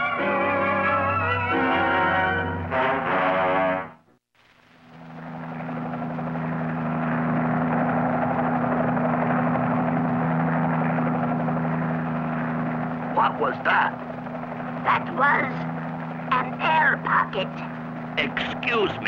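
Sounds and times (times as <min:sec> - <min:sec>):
cartoon helicopter droning hum: 0:00.0 - 0:03.9, 0:04.8 - 0:19.0.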